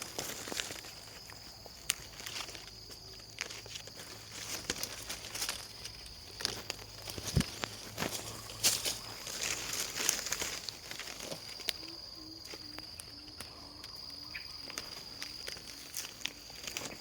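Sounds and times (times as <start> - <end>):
leaves and branches rustling: 0.0 - 17.0.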